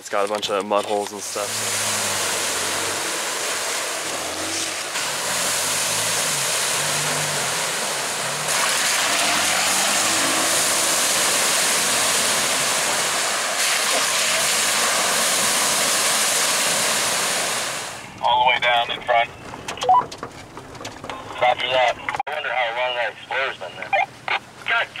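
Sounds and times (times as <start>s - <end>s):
truck engine: 0.0s - 22.2s
wind and road noise: 0.0s - 25.0s.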